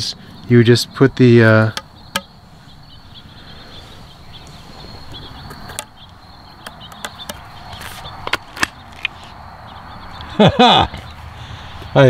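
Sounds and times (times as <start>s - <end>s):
insect chirring: 0.0s - 10.3s.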